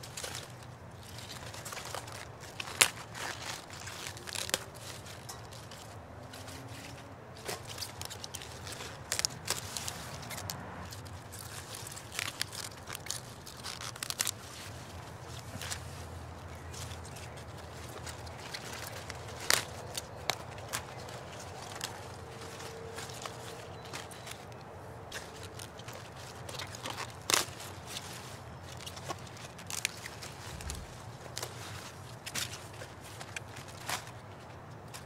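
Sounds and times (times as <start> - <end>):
leaves rustling: 0.0 - 35.0
lettuce stems snapping: 0.2 - 6.6, 7.4 - 15.8, 16.8 - 34.1.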